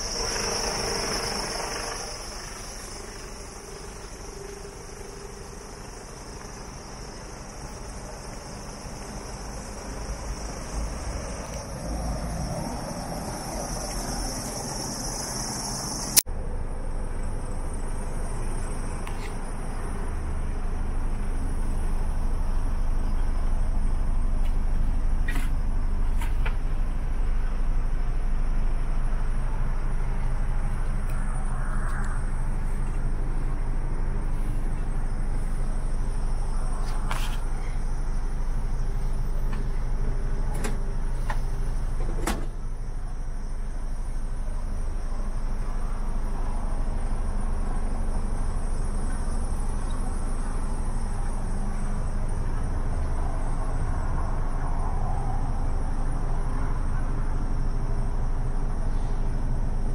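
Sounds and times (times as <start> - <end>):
diesel engine idling: 0.0 - 54.8.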